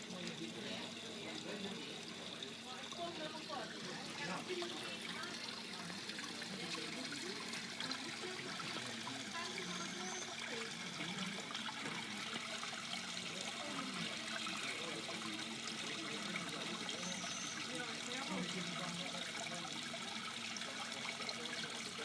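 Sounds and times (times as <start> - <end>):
small waterfall splashing into pond: 0.0 - 22.0.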